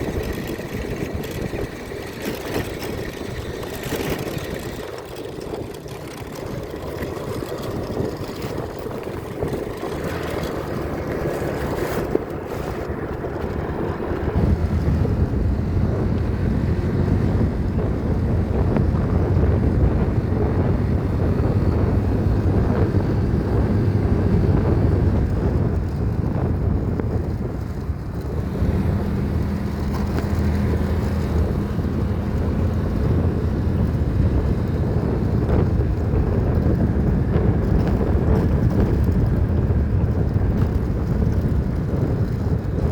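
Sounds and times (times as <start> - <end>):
vehicle engine running: 0.0 - 42.9
wind buffeting microphone: 0.0 - 42.9.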